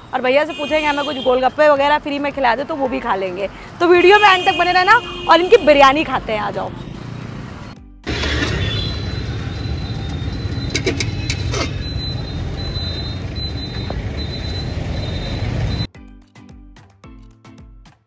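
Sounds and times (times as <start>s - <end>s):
road traffic rumble: 0.0s - 15.9s.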